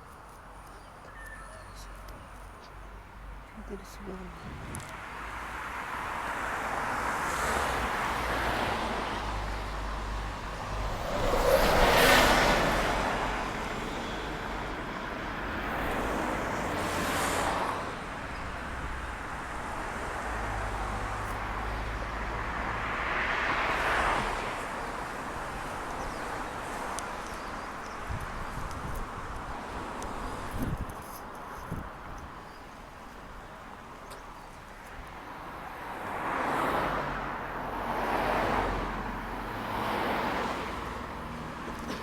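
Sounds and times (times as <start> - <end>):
low traffic rumble: 0.0 - 42.0
vehicles passing: 0.1 - 42.0.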